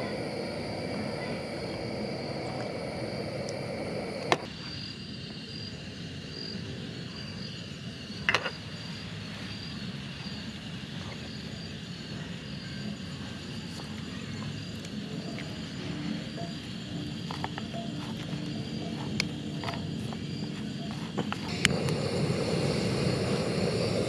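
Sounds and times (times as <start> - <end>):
gas stove hissing: 0.0 - 10.8, 14.7 - 24.0
insects trilling: 0.0 - 24.0.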